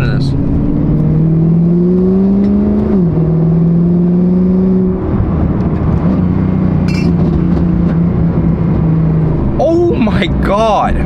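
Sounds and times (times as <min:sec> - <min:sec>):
car engine at full throttle: 0:00.0 - 0:11.0.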